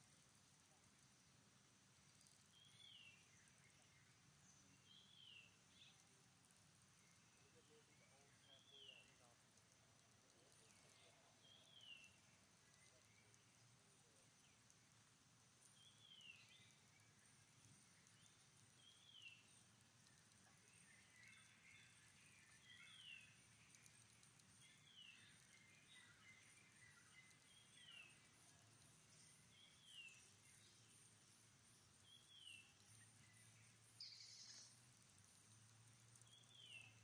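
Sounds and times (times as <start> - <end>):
faint steady hiss: 0.0 - 37.0.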